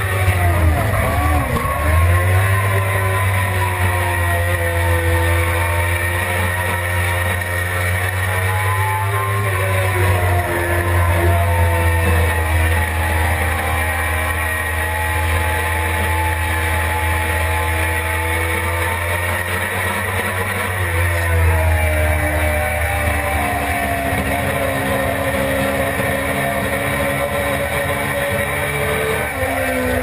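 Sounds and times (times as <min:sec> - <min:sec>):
motorcycle engine at speed: 0:00.0 - 0:30.0.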